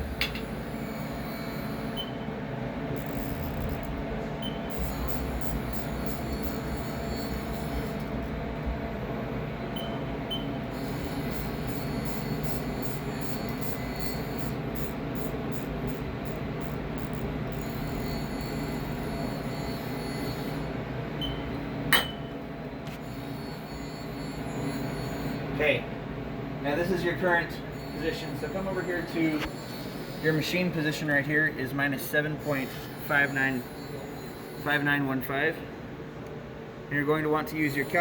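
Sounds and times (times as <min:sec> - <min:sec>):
milling machine hum: 0:00.0 - 0:34.7.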